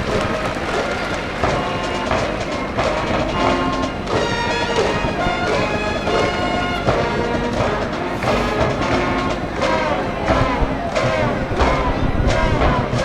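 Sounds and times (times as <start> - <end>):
brass band playing cheering song: 0.0 - 13.0.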